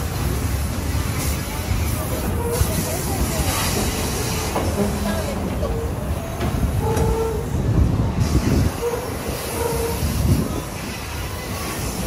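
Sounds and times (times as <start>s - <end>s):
train wheels rumbling and clattering: 0.0s - 12.0s
wheel flanges squealing: 1.1s - 12.0s.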